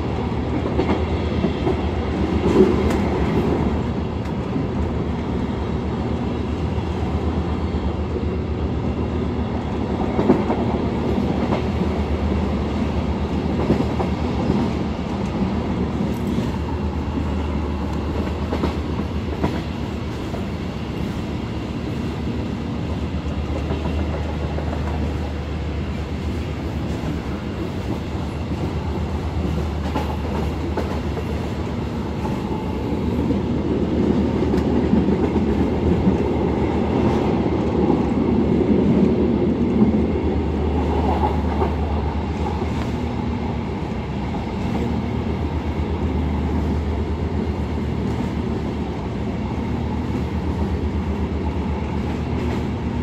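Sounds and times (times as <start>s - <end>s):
train running drone: 0.0s - 53.0s.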